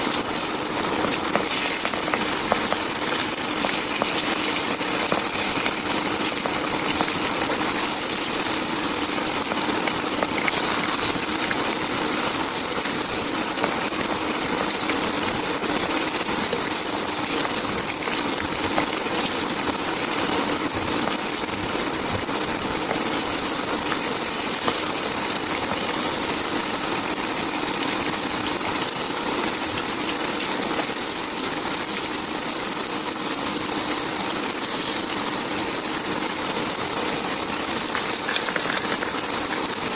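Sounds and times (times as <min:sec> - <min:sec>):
fish deep-frying sizzle: 0:00.0 - 0:39.9.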